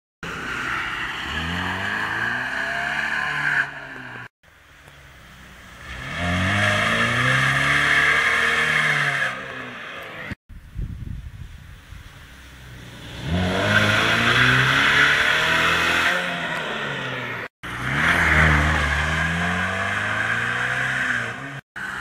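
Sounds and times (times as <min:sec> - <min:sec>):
car engine revving hard: 0:00.2 - 0:04.3, 0:05.8 - 0:10.3, 0:12.9 - 0:22.0.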